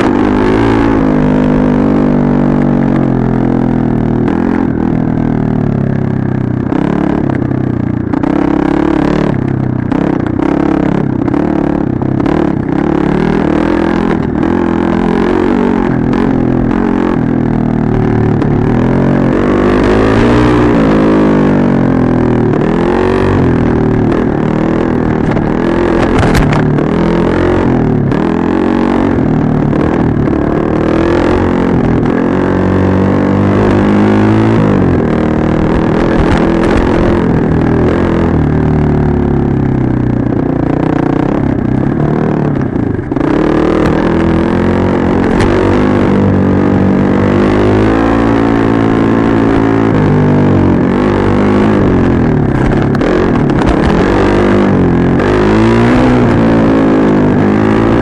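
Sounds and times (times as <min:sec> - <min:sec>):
dirt bike engine revving: 0:00.0 - 0:05.8, 0:06.6 - 0:58.0.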